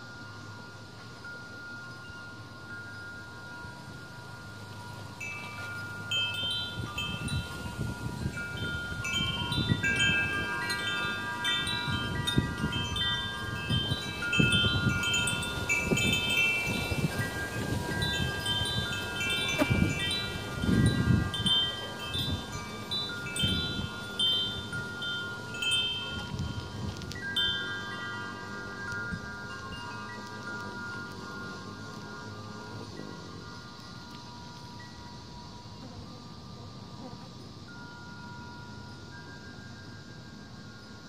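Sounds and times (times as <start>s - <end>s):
wind chimes tinkling: 0.0s - 41.0s
wind rumble on microphone: 3.6s - 37.7s.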